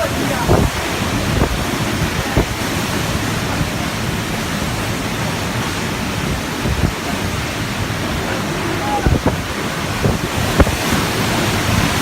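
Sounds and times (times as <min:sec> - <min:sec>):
wind and driving rain: 0:00.0 - 0:12.0.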